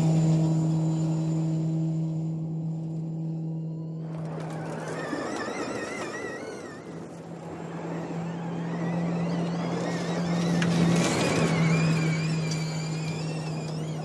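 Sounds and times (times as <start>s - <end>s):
rally car driving off-road: 0.0s - 14.0s.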